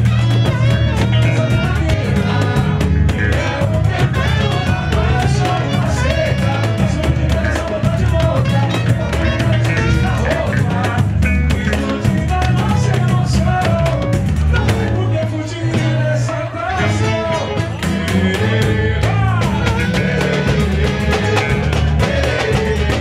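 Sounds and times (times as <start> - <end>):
man singing: 0.0 - 23.0
samba band playing: 0.0 - 23.0
steady drum beat: 0.0 - 23.0.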